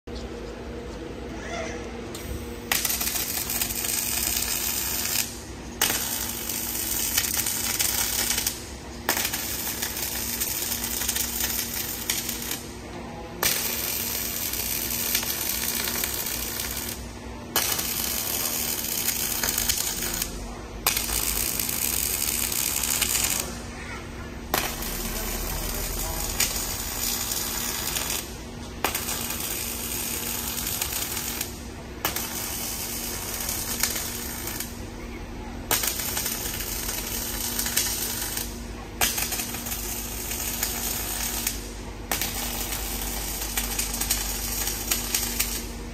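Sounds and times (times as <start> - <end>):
steady low hum: 0.1 - 45.9
welding arc crackling: 2.1 - 45.9.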